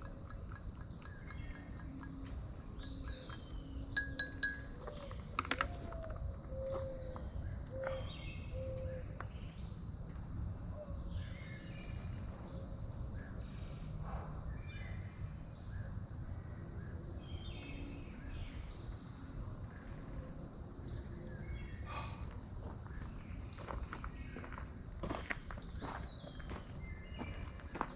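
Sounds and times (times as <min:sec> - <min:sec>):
high insect drone: 0:00.0 - 0:27.9.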